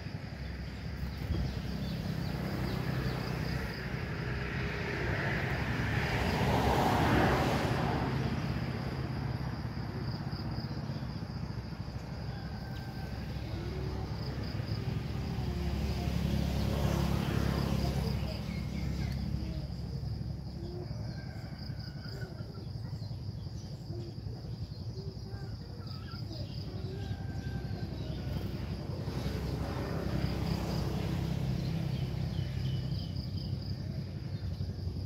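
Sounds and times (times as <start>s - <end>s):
high insect trill: 0.0s - 35.0s
motor vehicle passing: 0.0s - 35.0s.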